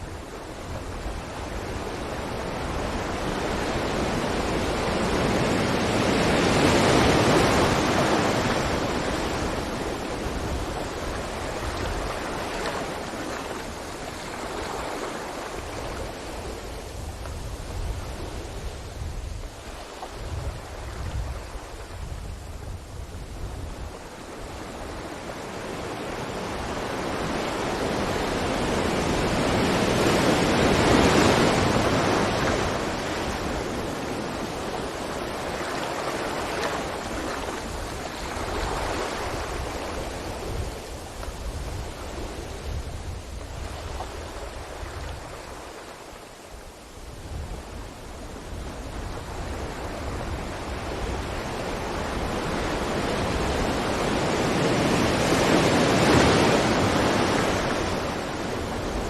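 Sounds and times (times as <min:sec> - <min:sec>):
sea waves breaking on a beach: 0:00.0 - 0:59.0.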